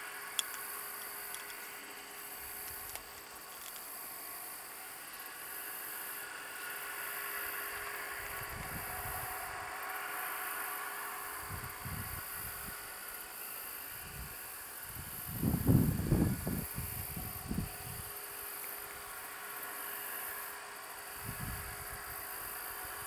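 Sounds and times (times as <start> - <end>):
distant steam locomotive rumble: 0.0 - 23.0.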